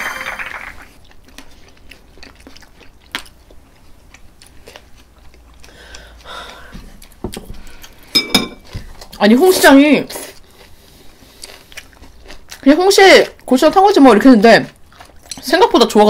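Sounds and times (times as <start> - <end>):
chewing and mouth sounds: 1.0 - 16.0.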